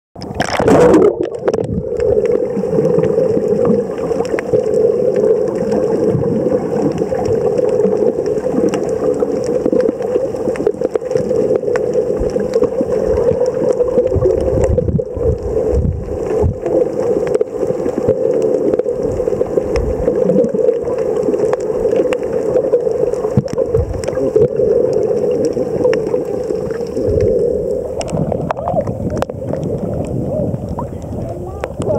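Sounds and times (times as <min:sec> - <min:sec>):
faint clicks and crackles: 0:00.2 - 0:31.9
muffled underwater drone: 0:00.2 - 0:31.9.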